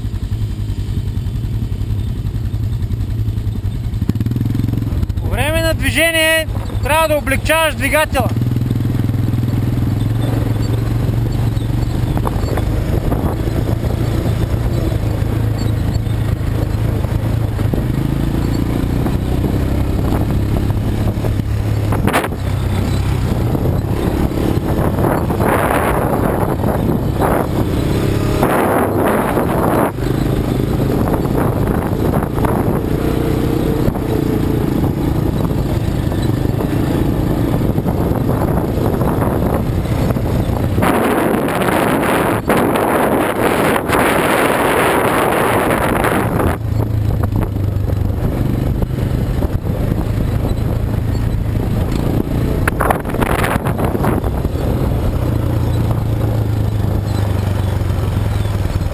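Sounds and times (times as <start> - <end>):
quad bike engine running: 0.0 - 58.9.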